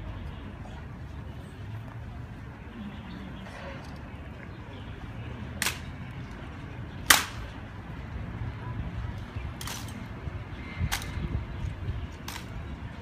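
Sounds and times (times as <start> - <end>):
low outdoor murmur: 0.0 - 13.0.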